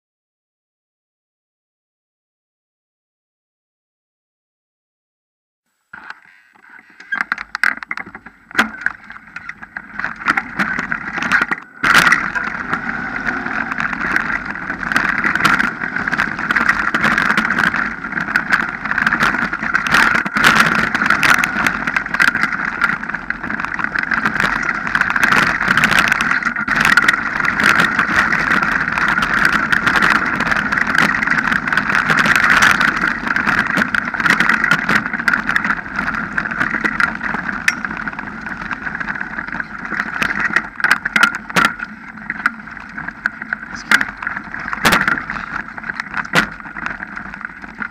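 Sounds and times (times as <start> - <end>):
bike tyre noise on dirt: 5.7 - 47.9.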